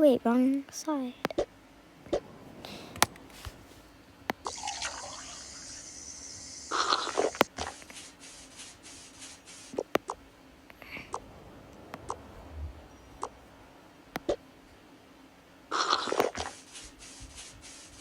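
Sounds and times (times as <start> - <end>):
water splashes: 1.3 - 14.6, 15.7 - 18.0.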